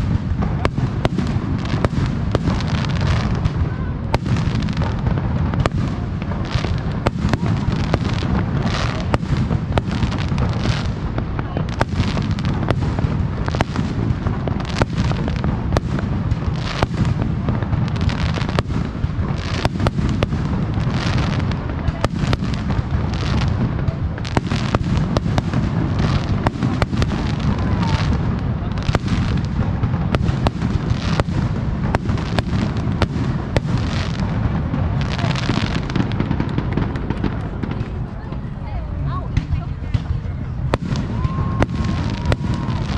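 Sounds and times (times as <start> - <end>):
fireworks bursting with sharp bangs: 0.0 - 42.9
low rumble of booms: 0.0 - 42.9.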